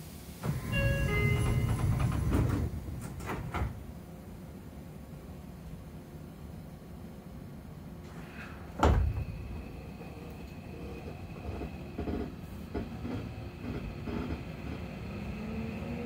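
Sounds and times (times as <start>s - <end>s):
train steady low hum: 0.0s - 16.0s.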